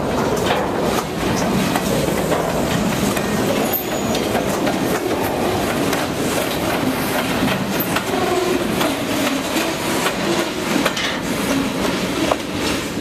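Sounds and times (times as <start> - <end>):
railroad cars rolling: 0.0 - 13.0
wheels clicking over rail joints: 0.0 - 13.0.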